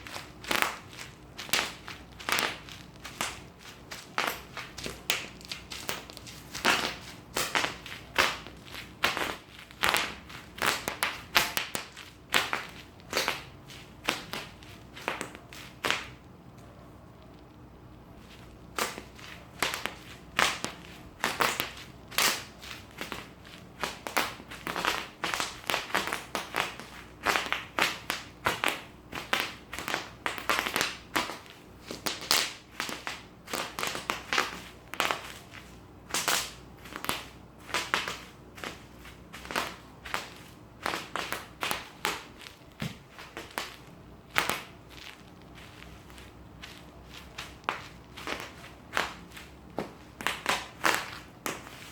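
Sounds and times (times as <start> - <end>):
bubble wrap popping: 0.0 - 16.2, 18.2 - 51.9.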